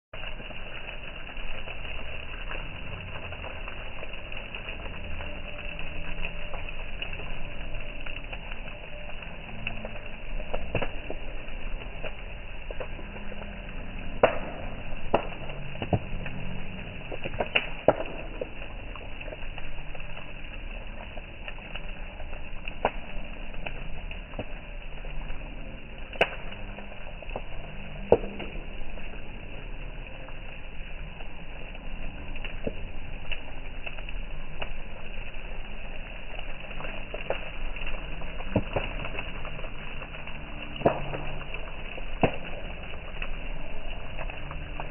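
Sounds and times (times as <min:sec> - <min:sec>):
bonfire crackling and hissing: 0:00.2 - 0:44.9
fire popping: 0:00.2 - 0:44.9.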